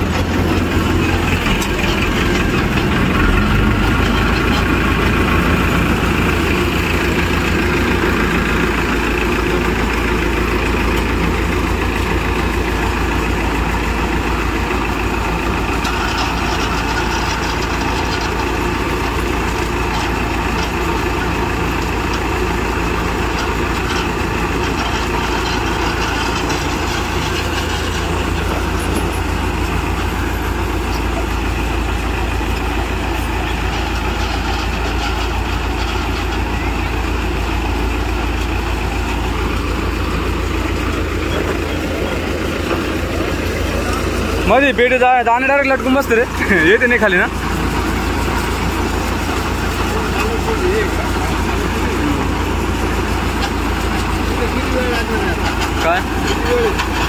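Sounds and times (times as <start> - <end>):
combine harvester mechanical noise: 0.0 - 57.0
diesel tractor engine running: 0.0 - 57.0.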